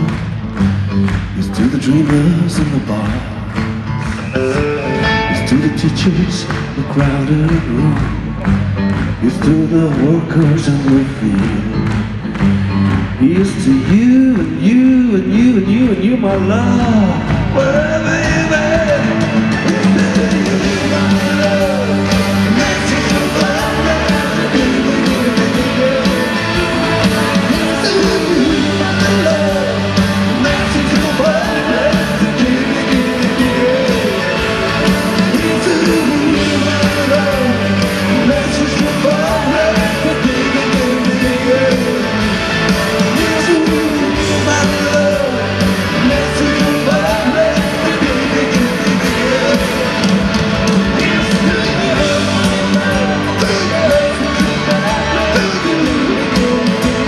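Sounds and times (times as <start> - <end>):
live rock band playing: 0.0 - 57.0
man singing lead vocals: 1.3 - 3.6, 4.4 - 8.4, 9.1 - 11.9, 13.0 - 57.0.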